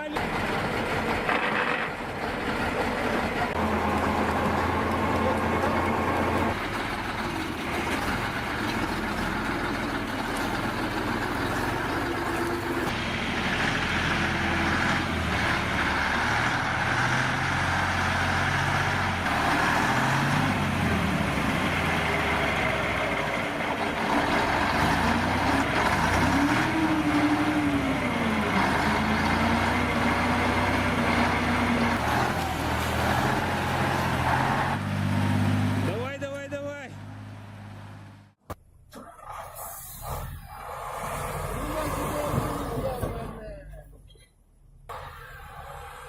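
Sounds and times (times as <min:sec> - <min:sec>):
diesel engine revving: 0:00.0 - 0:38.4, 0:39.3 - 0:43.6.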